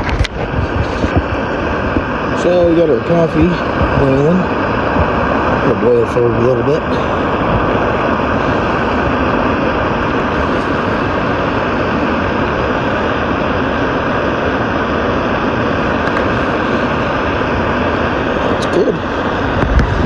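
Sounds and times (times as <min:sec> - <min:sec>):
coffee boiling: 0:00.0 - 0:20.0
gas stove hissing: 0:00.0 - 0:20.0.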